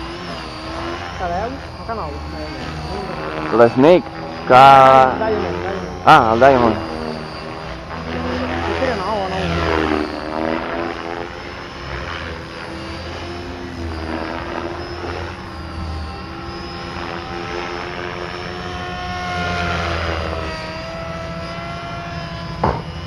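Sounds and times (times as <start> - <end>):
model helicopter whining: 0.0 - 23.0.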